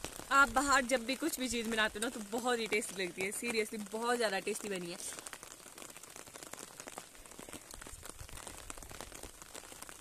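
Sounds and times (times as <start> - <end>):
rain ticking on umbrella: 0.0 - 10.0.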